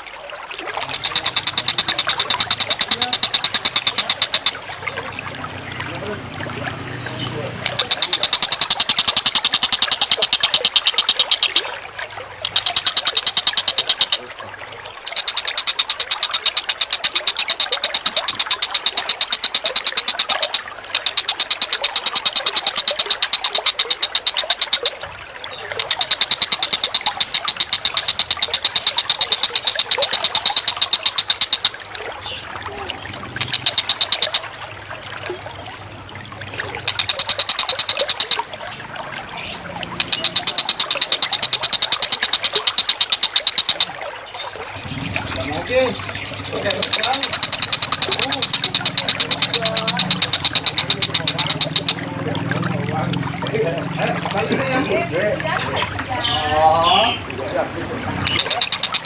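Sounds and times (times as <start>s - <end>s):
birds rattling calls: 0.8s - 59.0s.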